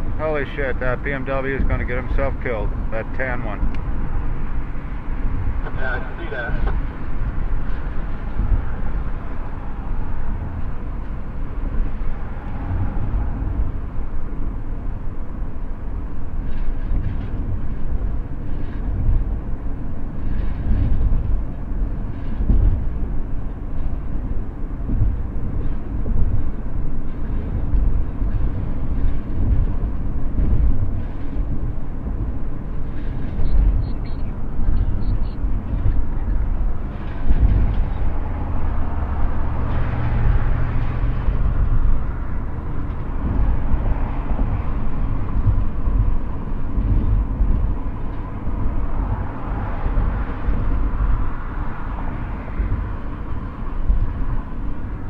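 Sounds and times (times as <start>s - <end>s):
car road rumble inside cabin: 0.0s - 55.0s.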